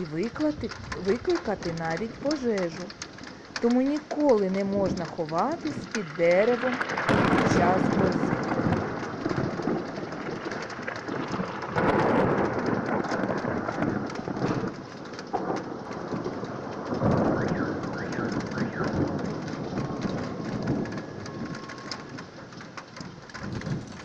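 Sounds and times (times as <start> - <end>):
heavy rain: 0.0 - 24.0
thunder rolling: 0.0 - 24.0.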